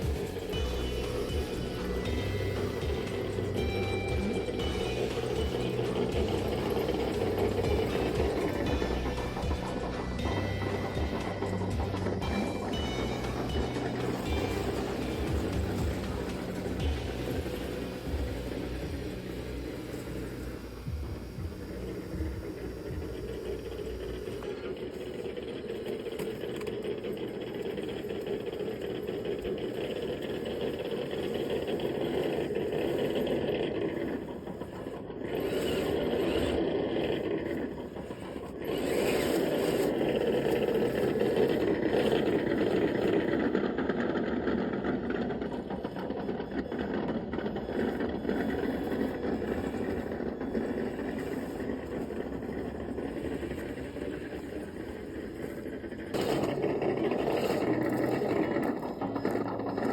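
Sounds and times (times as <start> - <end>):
toy truck electric motor whirring: 0.0 - 59.9.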